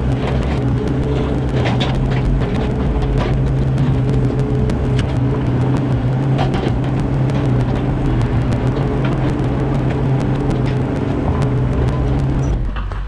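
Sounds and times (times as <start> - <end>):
clicks and knocks: 0.0 - 13.0
excavator engine running: 0.0 - 13.0.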